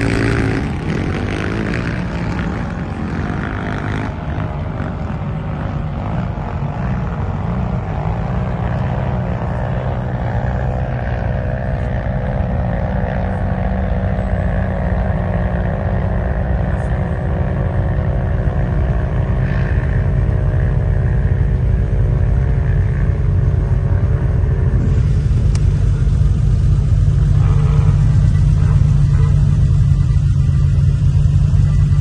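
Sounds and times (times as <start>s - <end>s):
engine low rumble: 0.0s - 32.0s.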